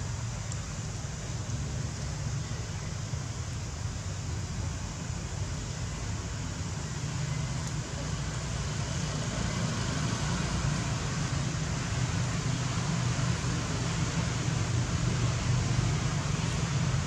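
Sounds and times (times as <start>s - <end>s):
even hiss: 0.0s - 17.0s.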